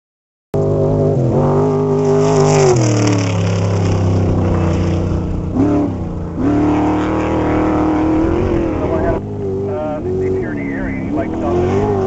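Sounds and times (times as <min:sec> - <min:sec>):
race vehicle engine revving high: 0:00.6 - 0:12.0.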